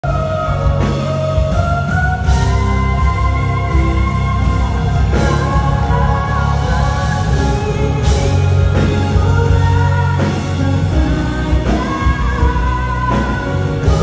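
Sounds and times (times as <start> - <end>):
live pop band playing: 0.0 - 14.0
woman singing into a microphone: 0.1 - 14.0.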